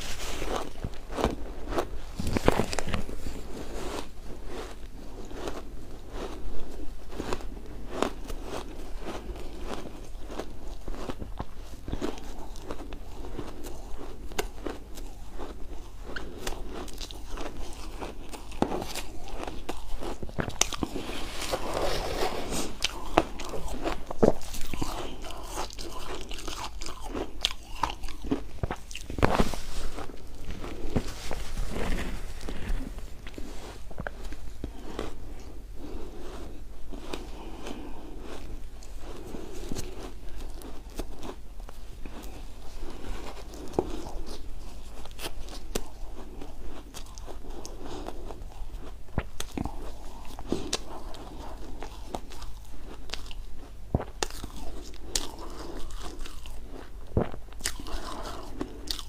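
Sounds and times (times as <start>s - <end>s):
chewing crunchy shaved ice: 0.0s - 59.0s.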